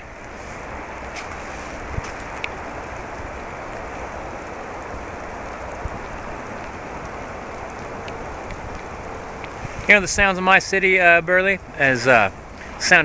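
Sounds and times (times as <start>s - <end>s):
sharp raindrop ticks: 0.0s - 13.0s
steady pouring rain: 0.0s - 13.0s.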